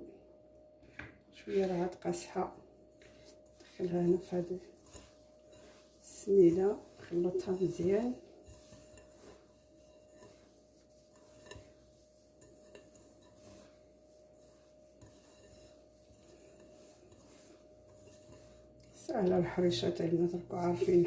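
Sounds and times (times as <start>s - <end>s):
semolina rubbed by hand in bowl: 1.4s - 21.0s.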